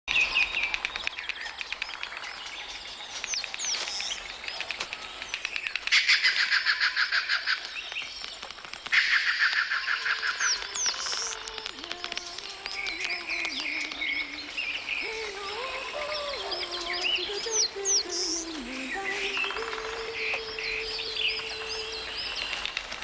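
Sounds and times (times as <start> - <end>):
small birds chirping: 0.0 - 23.0
fast trilled bird phrases: 0.1 - 23.0.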